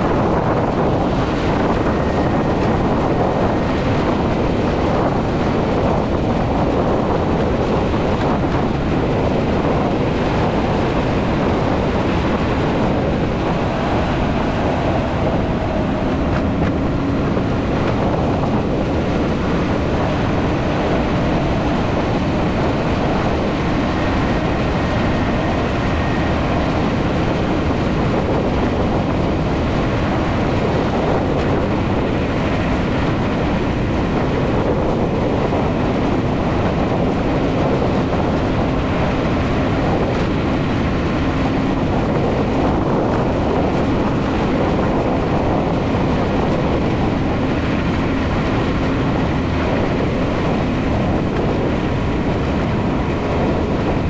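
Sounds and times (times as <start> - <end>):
faint engine hum: 0.0 - 54.0
wind and tyre noise: 0.0 - 54.0.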